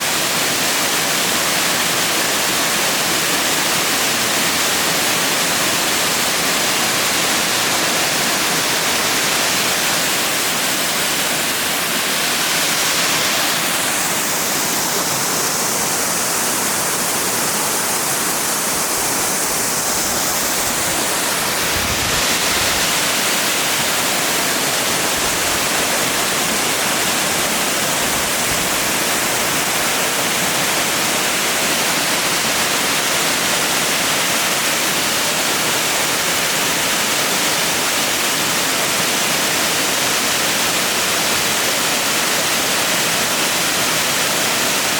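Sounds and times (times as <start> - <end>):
waterfall and stream rushing: 0.0 - 44.9.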